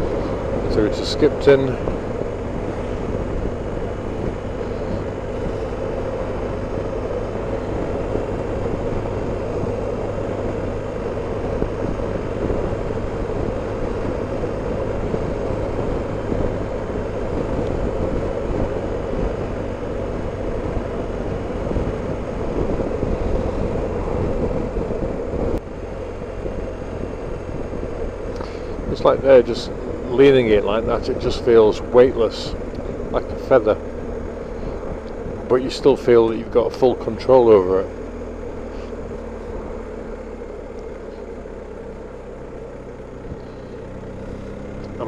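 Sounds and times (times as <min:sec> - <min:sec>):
motorcycle engine running: 0:00.0 - 0:45.0
wind rush and road noise: 0:00.0 - 0:45.0.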